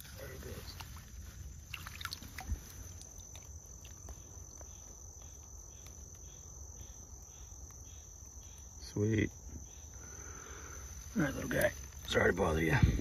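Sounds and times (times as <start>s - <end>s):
faint pulsing insect call: 0.0s - 13.0s
insect high-pitched trill: 0.0s - 13.0s.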